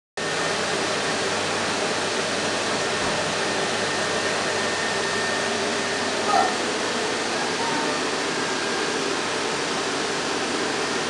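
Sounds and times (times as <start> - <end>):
vacuum cleaner motor running: 0.2 - 11.0.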